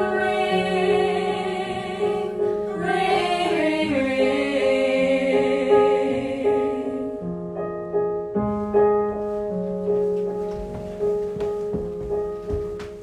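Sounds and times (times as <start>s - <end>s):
piano playing: 0.0s - 13.0s.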